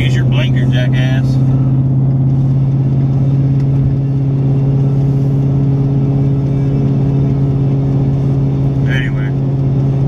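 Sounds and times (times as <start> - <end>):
low exhaust drone: 0.0 - 10.0
road noise: 0.0 - 10.0.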